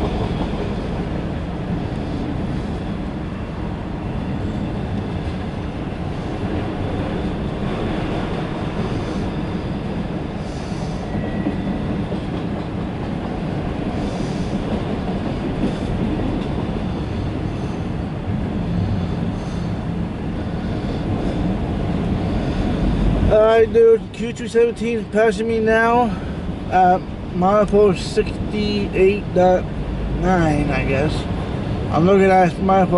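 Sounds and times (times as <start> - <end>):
freight train wheels rumbling: 0.0 - 32.9.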